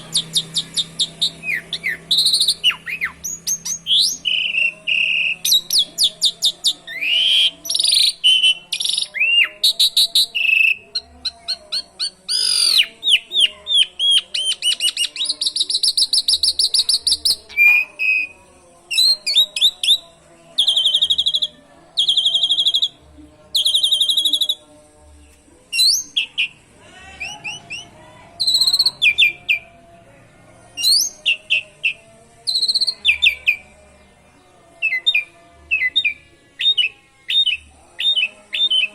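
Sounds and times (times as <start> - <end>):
starling singing varied song: 0.0 - 38.9.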